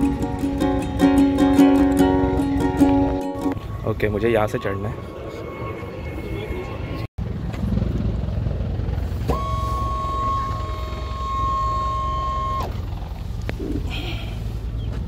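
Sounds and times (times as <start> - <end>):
steady high-pitched tone: 0.0 - 12.7
aircraft engines rumbling: 0.0 - 15.0.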